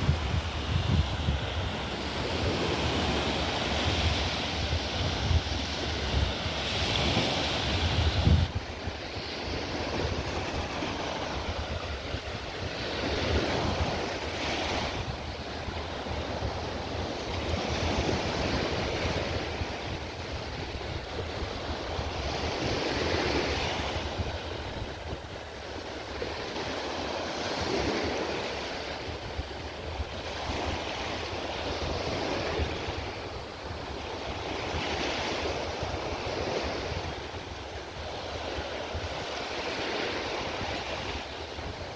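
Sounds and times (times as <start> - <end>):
small waves breaking on beach: 0.0 - 41.9
wind rumbling on microphone: 0.0 - 41.9.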